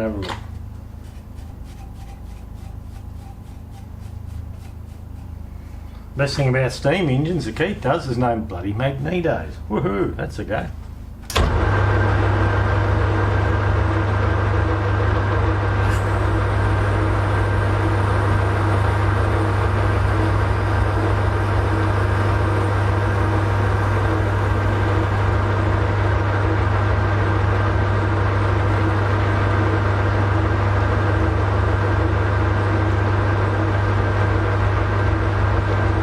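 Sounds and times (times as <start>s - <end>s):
metal lathe humming: 0.1s - 10.2s, 11.3s - 36.0s.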